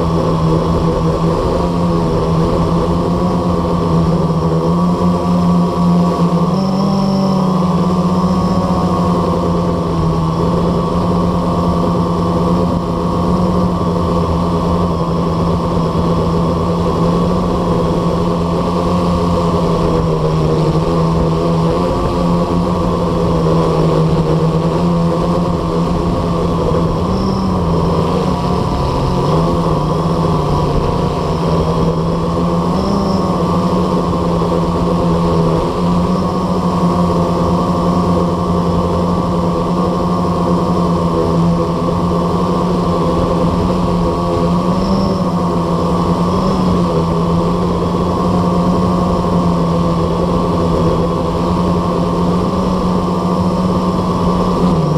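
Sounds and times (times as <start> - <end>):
quadcopter motors humming: 0.0 - 54.9.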